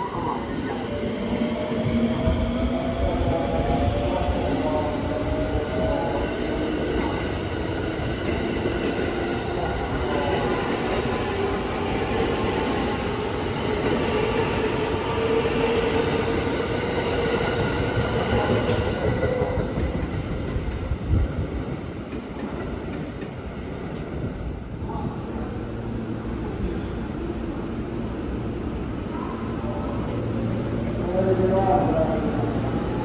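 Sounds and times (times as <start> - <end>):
electric train passing: 0.0 - 33.0
train whine: 0.0 - 33.0.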